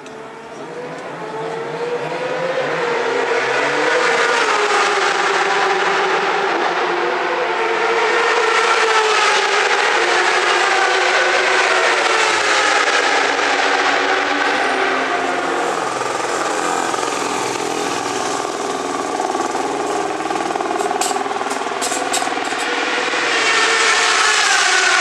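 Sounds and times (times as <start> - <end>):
racing motorcycle engine: 0.0 - 25.0.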